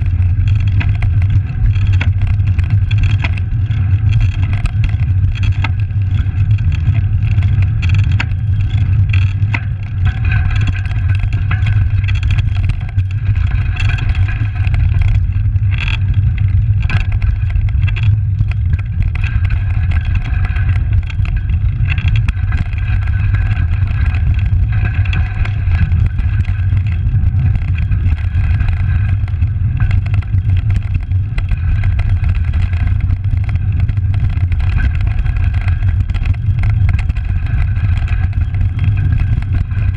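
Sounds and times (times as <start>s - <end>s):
bicycle rattles and clicks: 0.0s - 39.9s
bicycle tyres on rough pavement: 0.0s - 39.9s
wind on microphone: 0.0s - 39.9s.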